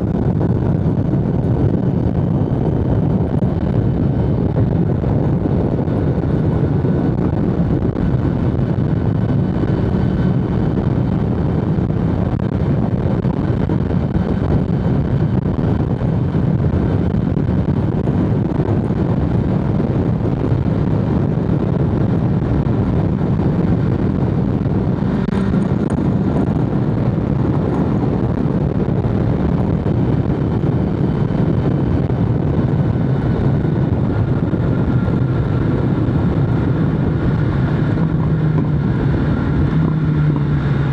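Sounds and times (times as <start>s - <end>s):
motorcycle engine and exhaust running: 0.0s - 40.9s
wind noise: 0.0s - 40.9s.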